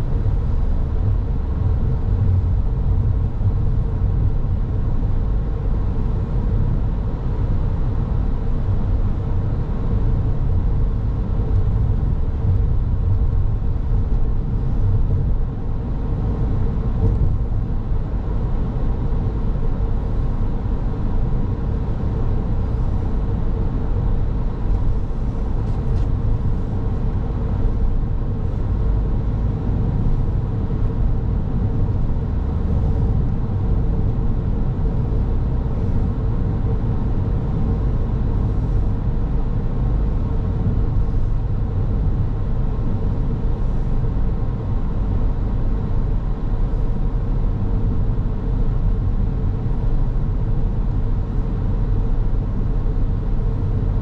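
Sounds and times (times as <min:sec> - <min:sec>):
faint constant hum: 0:00.0 - 0:54.0
tyres and engine rumble: 0:00.0 - 0:54.0.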